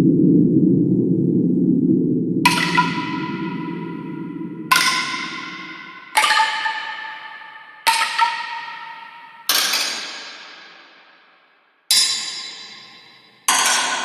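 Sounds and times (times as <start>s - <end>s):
bell-like metallic hits: 2.5s - 14.0s.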